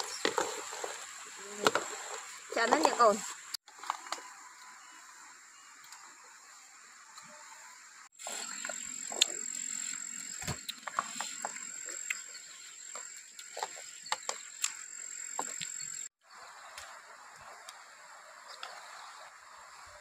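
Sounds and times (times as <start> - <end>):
high-pitched insect buzz: 0.0 - 20.0.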